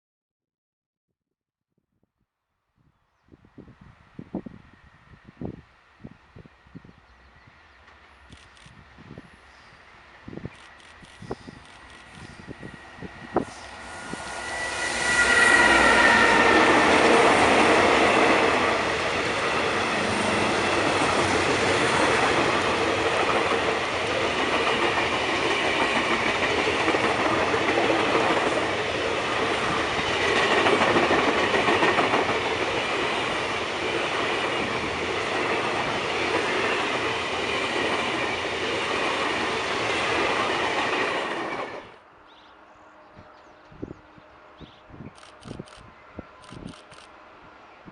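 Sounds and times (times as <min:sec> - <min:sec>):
locomotive whine: 0:03.6 - 0:47.9.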